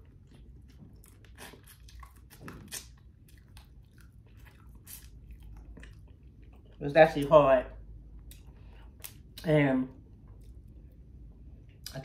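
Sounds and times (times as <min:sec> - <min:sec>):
chewing with wet mouth clicks: 0:00.0 - 0:12.0.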